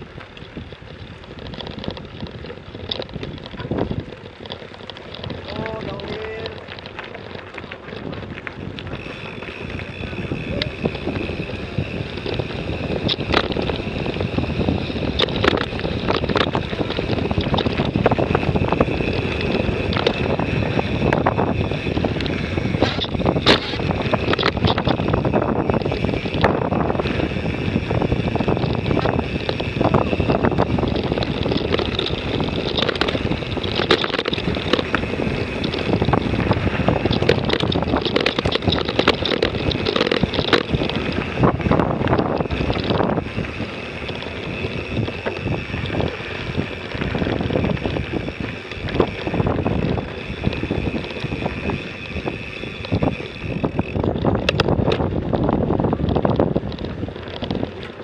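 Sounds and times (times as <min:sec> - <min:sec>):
bike rattling over rough trail: 0:00.0 - 0:58.0
wind buffeting microphone: 0:00.0 - 0:58.0.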